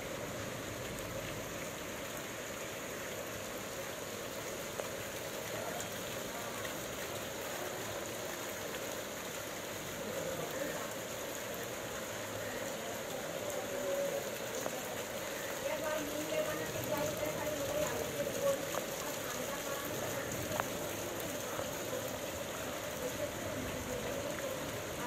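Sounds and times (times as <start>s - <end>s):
heavy rain on flooded street: 0.0s - 25.0s.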